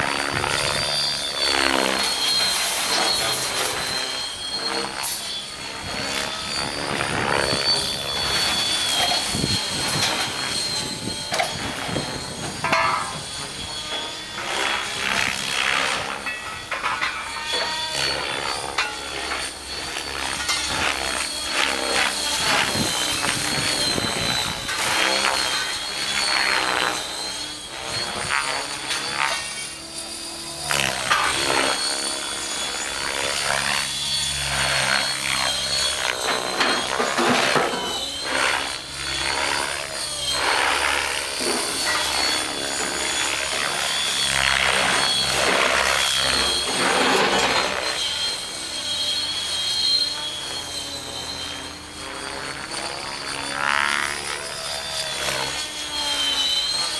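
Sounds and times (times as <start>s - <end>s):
model helicopter motor whine: 0.0s - 56.9s.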